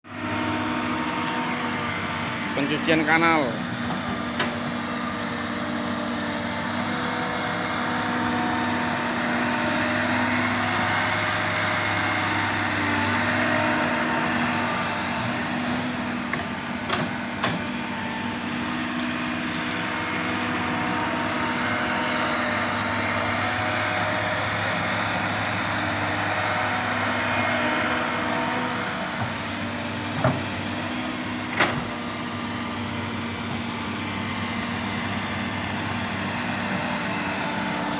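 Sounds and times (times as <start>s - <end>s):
excavator diesel engine running: 0.1s - 37.9s.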